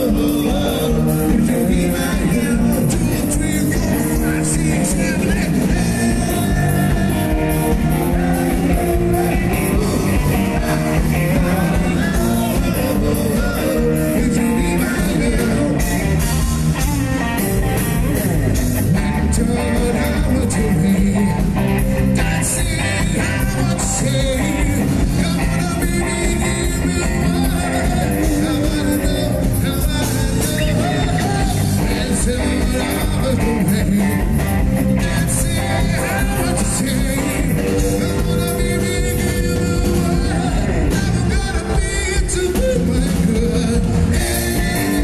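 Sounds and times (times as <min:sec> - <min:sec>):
person singing: 0:00.0 - 0:17.0, 0:17.6 - 0:45.0
live band playing: 0:00.0 - 0:45.0.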